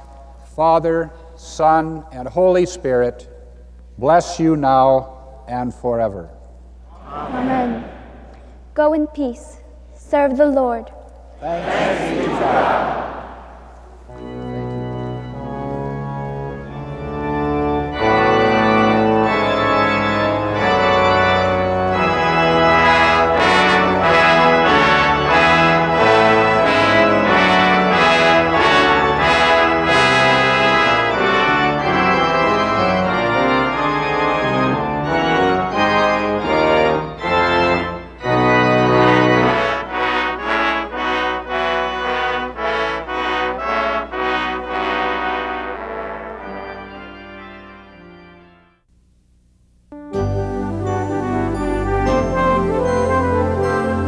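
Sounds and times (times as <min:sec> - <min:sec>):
organ and brass chords: 0:07.0 - 0:08.7, 0:11.4 - 0:48.9, 0:49.9 - 0:54.0.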